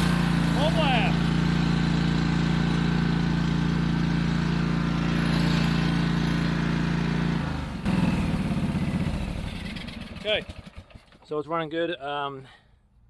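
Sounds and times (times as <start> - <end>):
mower engine running: 0.0 - 11.2.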